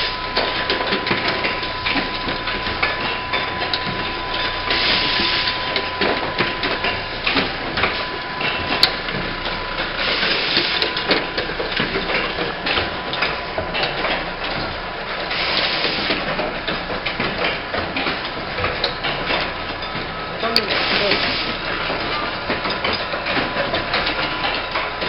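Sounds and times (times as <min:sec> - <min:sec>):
machine clicking and clattering: 0:00.0 - 0:25.0
thin steady whine: 0:00.0 - 0:25.0.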